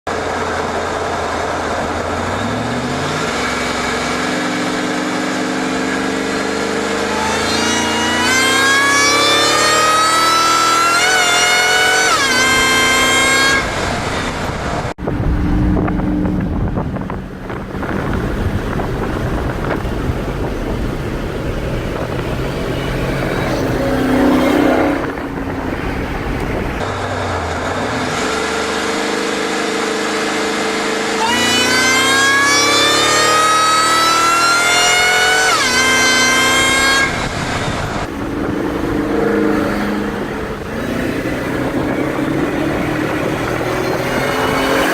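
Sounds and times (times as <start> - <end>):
truck engine accelerating: 0.1 - 44.9.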